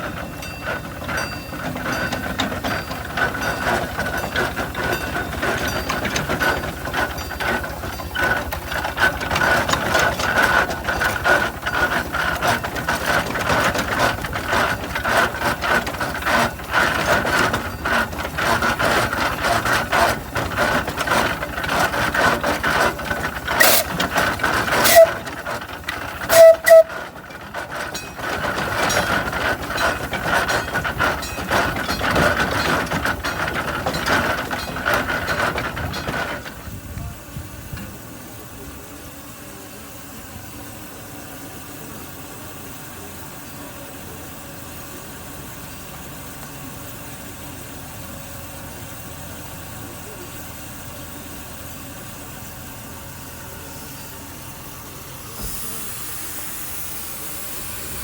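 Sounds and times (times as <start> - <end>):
steam traction engine clattering: 0.0 - 58.0.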